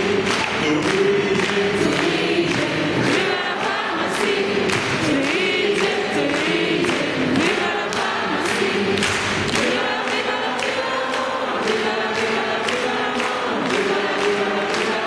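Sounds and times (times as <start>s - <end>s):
group of people singing: 0.0s - 15.0s.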